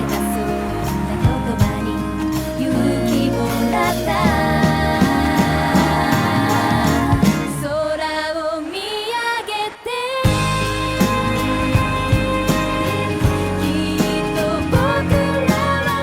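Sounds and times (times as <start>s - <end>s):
pop song with band: 0.0s - 16.0s.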